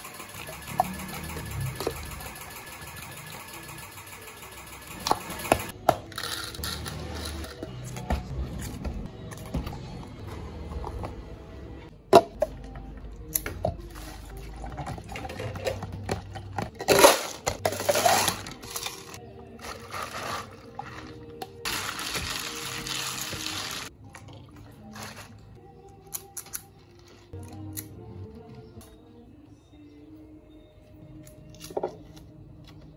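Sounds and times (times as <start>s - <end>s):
soft background music: 0.2s - 32.9s.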